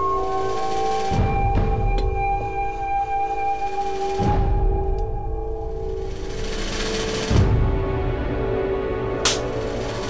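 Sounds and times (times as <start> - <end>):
ominous drama score: 0.0 - 10.0.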